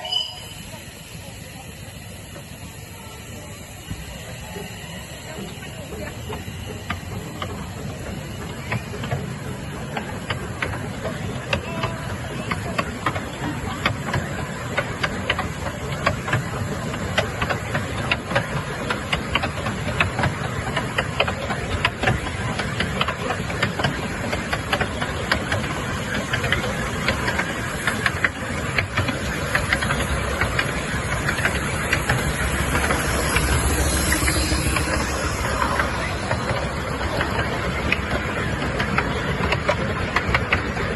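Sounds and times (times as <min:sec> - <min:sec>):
hiss of steam: 0:00.0 - 0:39.6.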